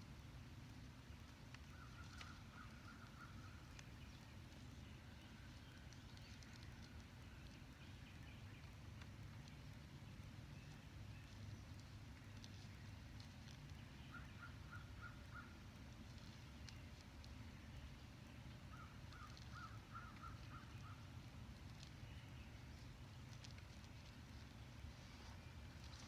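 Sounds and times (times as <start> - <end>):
faint repeated bird calls: 0.0 - 26.0
low outdoor rumble: 0.0 - 26.0.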